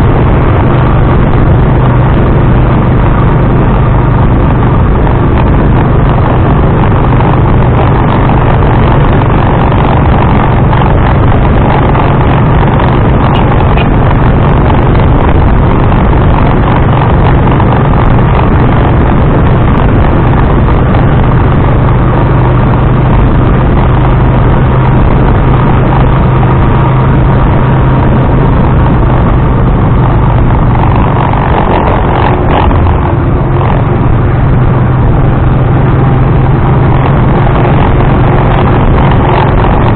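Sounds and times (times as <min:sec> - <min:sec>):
motorcycle engine hum: 0:00.0 - 0:39.9
road and wind noise: 0:00.0 - 0:39.9.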